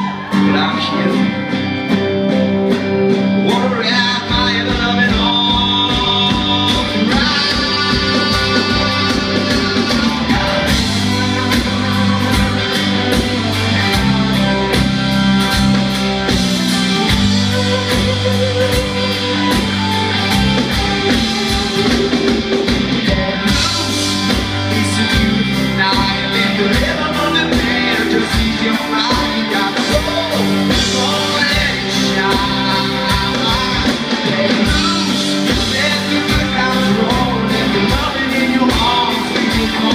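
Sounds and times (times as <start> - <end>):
person singing: 0.0 - 2.4, 3.2 - 39.9
live rock band playing: 0.0 - 39.9.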